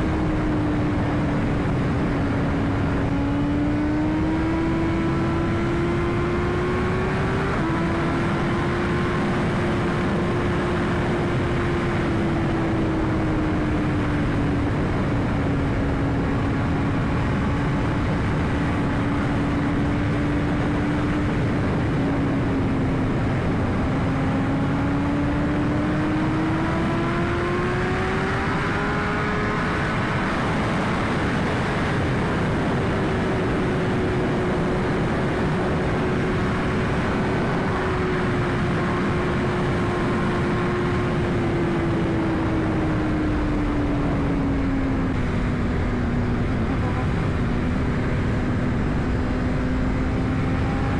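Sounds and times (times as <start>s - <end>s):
motorcycle engine cruising: 0.0s - 50.9s
wind noise on microphone: 0.0s - 50.9s.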